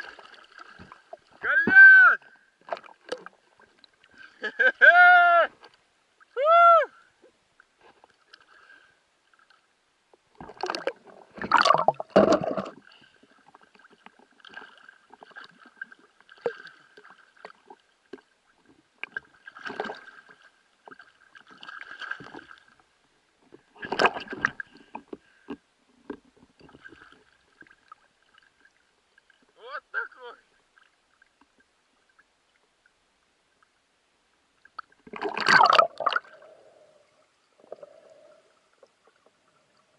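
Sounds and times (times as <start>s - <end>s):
water splashing and sloshing: 0.0s - 4.8s, 7.2s - 29.6s, 34.4s - 39.9s.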